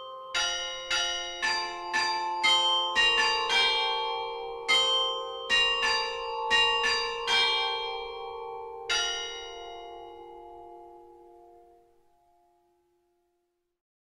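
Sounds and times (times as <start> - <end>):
tower bells ringing: 0.0 - 12.6.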